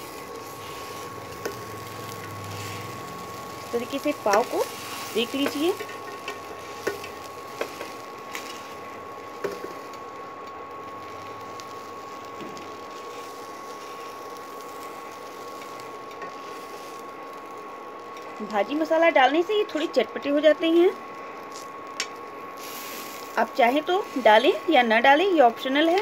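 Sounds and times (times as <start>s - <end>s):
induction cooktop hiss and whine: 0.0s - 26.0s.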